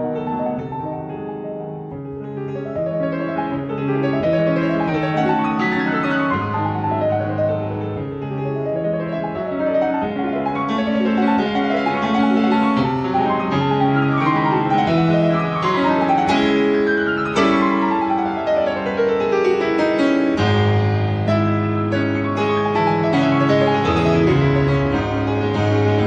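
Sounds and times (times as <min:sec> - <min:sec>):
piano music with falling runs: 0:00.0 - 0:26.0.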